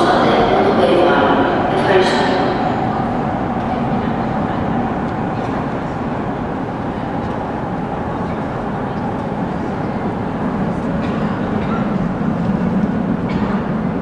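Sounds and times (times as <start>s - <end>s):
metro train rumble: 0.0s - 14.0s.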